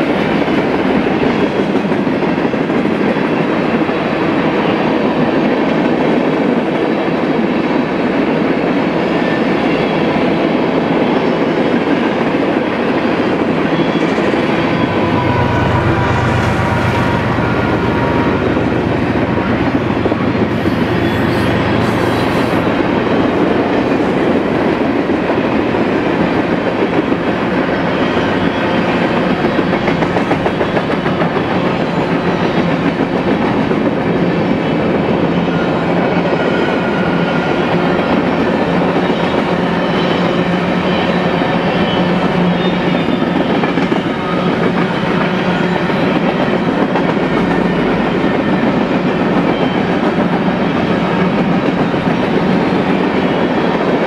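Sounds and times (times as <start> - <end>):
diesel locomotive drone: 0.0 - 54.0
freight train rumbling past: 0.0 - 54.0
wheels clacking on rail: 0.0 - 54.0.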